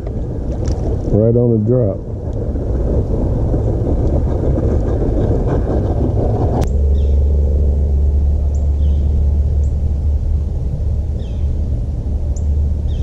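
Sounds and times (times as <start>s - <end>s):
dense low rumbling: 0.0s - 13.0s
steady low hum: 0.0s - 13.0s.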